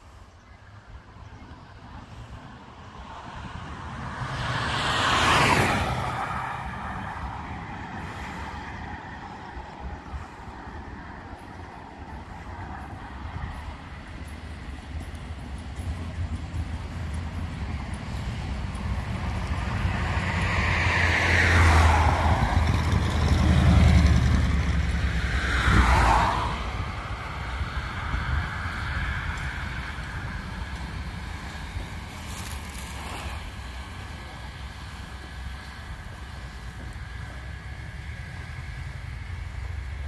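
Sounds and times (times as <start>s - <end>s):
road vehicle passing by: 0.0s - 40.0s
steady low rumble: 5.8s - 40.0s.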